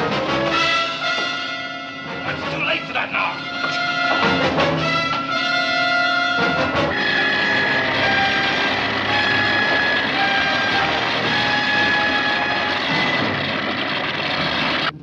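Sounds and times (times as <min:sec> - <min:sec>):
dramatic orchestral music with brass: 0:00.0 - 0:13.3.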